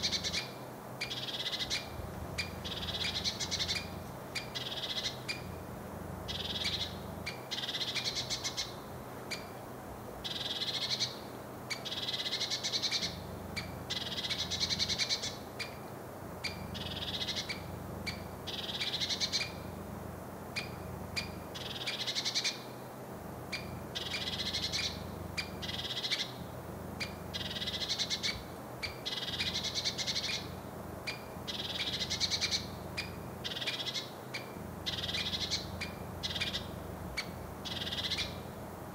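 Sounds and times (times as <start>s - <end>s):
woodpecker alarm call: 0.0s - 5.6s, 6.3s - 9.6s, 10.2s - 19.7s, 20.5s - 22.7s, 23.5s - 26.4s, 27.0s - 38.5s.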